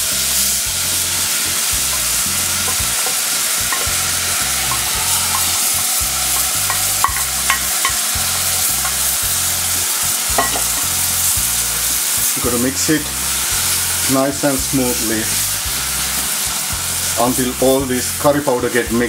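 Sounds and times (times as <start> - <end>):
oil sizzling in a saucepan: 0.0 - 19.0.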